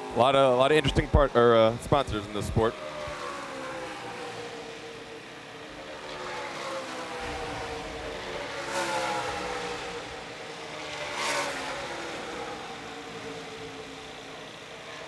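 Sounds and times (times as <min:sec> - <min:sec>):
race truck engines at speed: 0:00.0 - 0:15.0.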